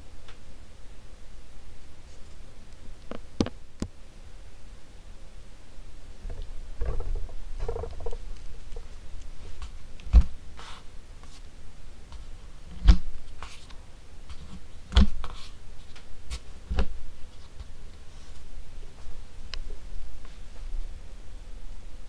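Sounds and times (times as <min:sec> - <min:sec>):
ceiling fan air rumble: 0:00.0 - 0:22.0.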